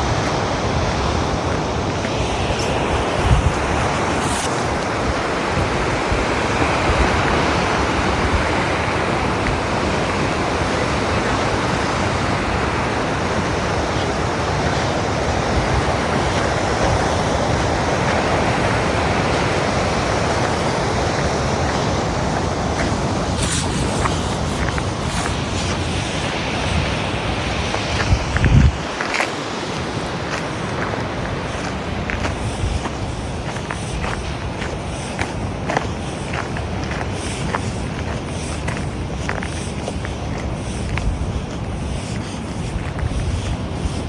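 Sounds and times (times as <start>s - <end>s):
ocean waves breaking on beach: 0.0s - 44.0s
wind bumps on microphone: 0.0s - 44.0s.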